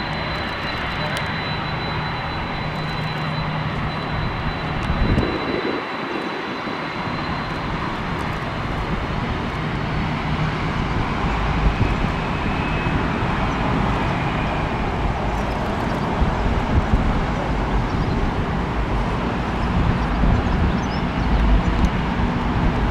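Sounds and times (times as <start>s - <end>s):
jet airliner taking off: 0.0s - 22.9s.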